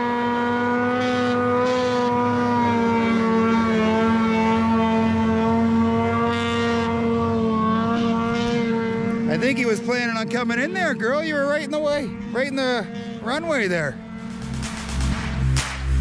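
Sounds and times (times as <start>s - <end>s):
snowmobile engine at high revs: 0.0s - 16.0s.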